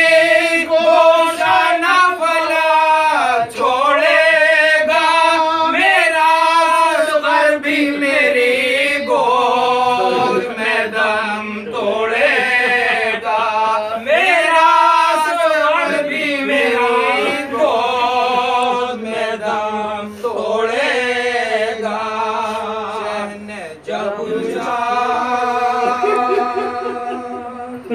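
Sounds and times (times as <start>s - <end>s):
men chanting together: 0.0s - 27.9s.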